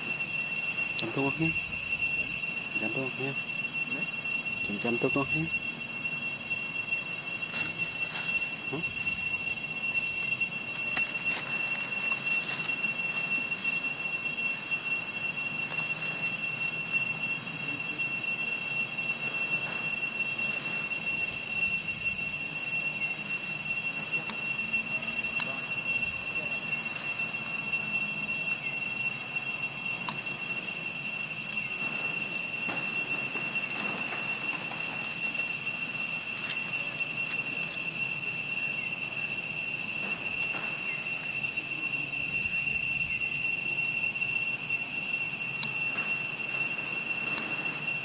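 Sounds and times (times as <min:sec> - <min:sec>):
insect chorus drone: 0:00.0 - 0:48.0.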